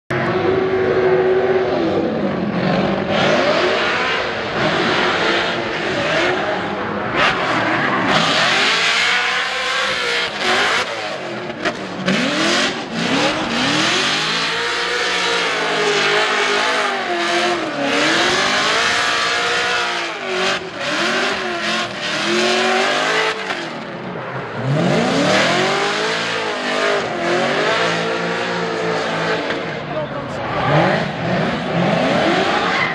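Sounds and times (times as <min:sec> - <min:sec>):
car engine revving: 0:00.1 - 0:32.9.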